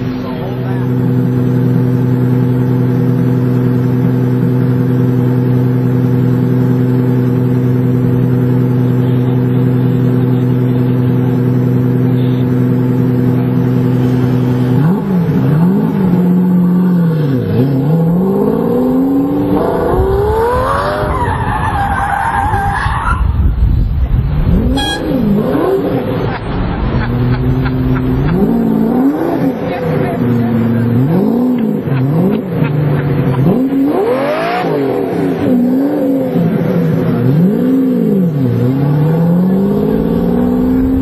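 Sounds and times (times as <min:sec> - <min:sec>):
sports car engine revving: 0:00.0 - 0:21.6, 0:24.4 - 0:41.0.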